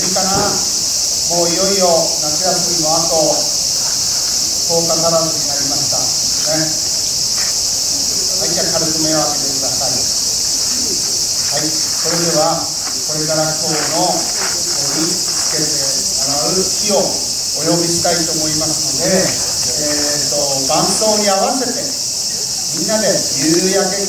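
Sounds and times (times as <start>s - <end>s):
people talking: 0.0s - 3.6s, 4.7s - 6.8s, 8.3s - 24.0s
crickets chirping: 0.0s - 24.0s.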